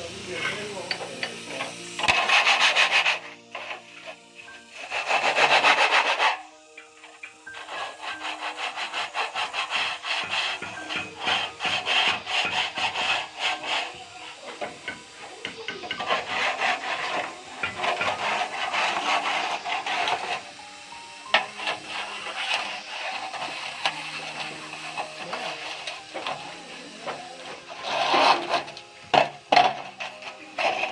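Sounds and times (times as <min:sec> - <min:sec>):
hand saw cutting wood: 0:00.0 - 0:30.9.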